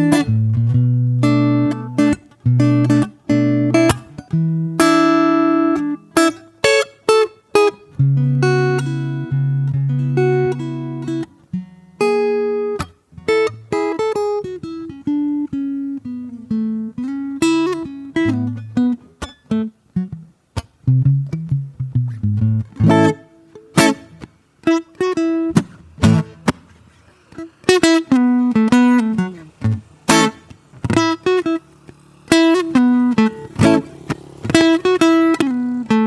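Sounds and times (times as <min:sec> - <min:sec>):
acoustic guitar playing: 0:00.0 - 0:36.0.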